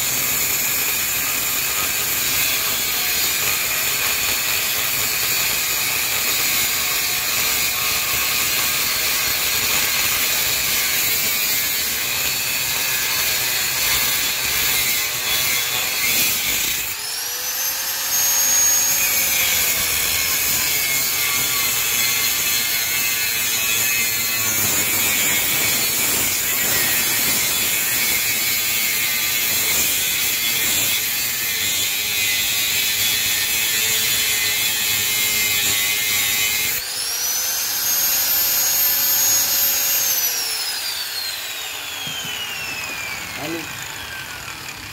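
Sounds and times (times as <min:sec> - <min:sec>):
angle grinder cutting steel: 0:00.0 - 0:44.9.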